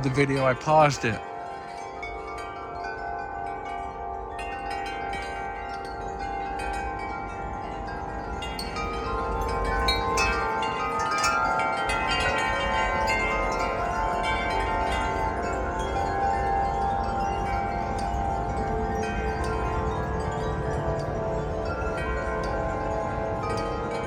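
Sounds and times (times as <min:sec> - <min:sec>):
wind chimes ringing: 0:00.0 - 0:24.0.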